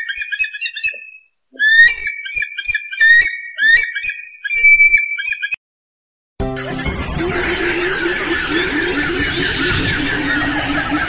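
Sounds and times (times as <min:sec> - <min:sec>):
whistled bird calls: 0:00.0 - 0:05.6, 0:07.3 - 0:11.0.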